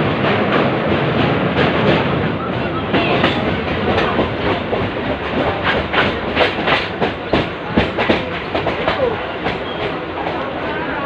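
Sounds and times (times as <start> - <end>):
train carriage running: 0.0 - 11.0
wheels clanking on rails: 0.0 - 11.0.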